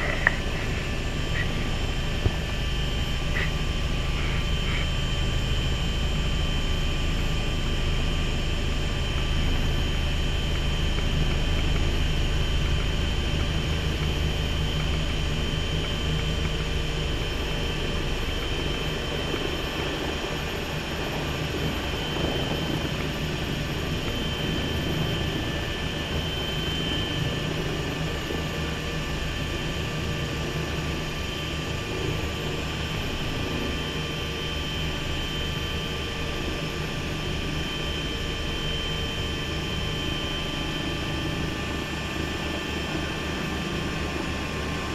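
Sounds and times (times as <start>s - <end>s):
helicopter low rumble: 0.0s - 44.9s
helicopter turbine whine: 0.0s - 44.9s.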